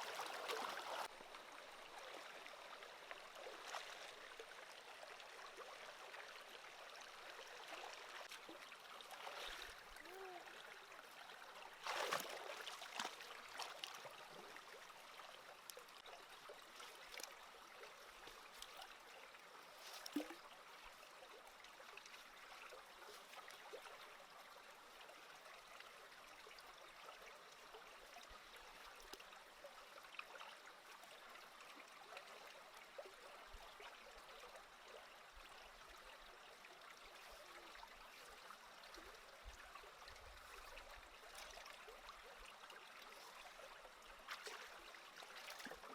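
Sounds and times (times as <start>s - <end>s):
small stream trickling: 0.0s - 45.9s.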